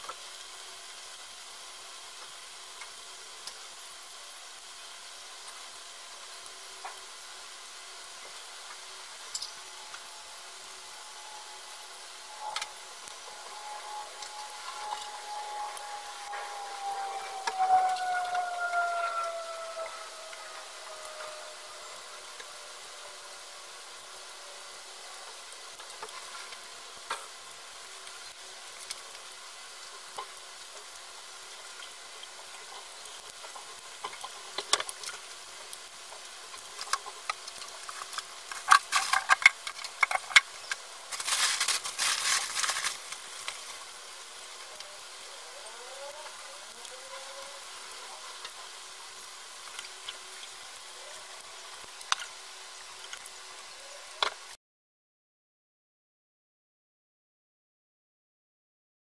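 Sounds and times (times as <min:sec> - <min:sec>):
meatballs sizzling in oil: 0:00.0 - 0:54.6.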